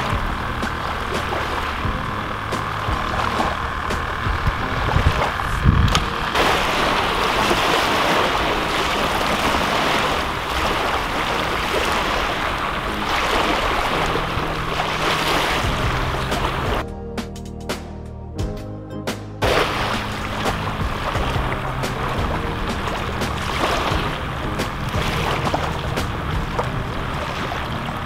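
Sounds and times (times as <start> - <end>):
small waves lapping: 0.0 - 16.8, 19.4 - 28.0
wind buffeting microphone: 0.0 - 16.8, 19.4 - 28.0.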